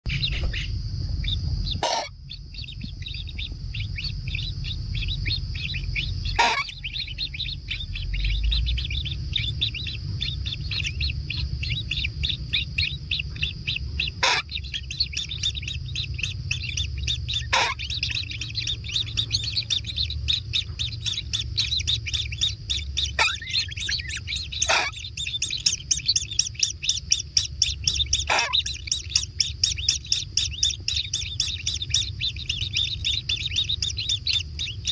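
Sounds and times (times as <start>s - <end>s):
bird chicks chirping: 0.1s - 34.9s
steady low rumble: 0.1s - 34.9s.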